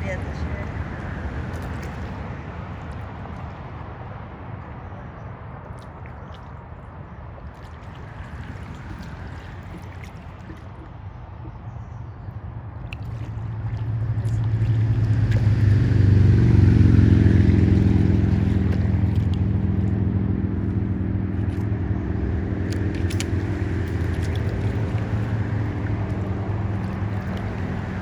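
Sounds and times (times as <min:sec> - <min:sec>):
motorboat engine passing: 0:00.0 - 0:28.0.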